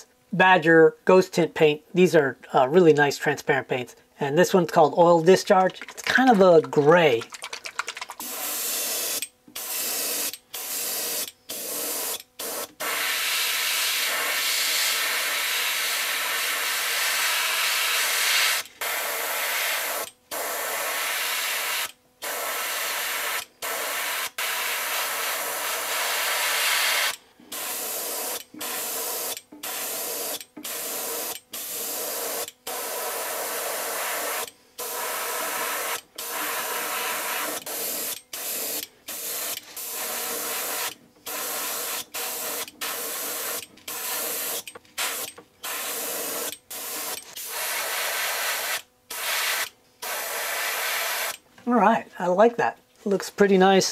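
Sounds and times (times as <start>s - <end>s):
airbrush hissing: 8.2s - 51.4s.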